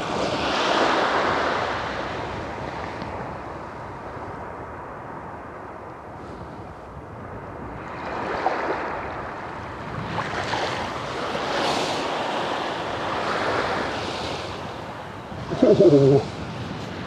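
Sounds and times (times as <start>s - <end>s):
small waves washing on beach: 0.0s - 17.0s.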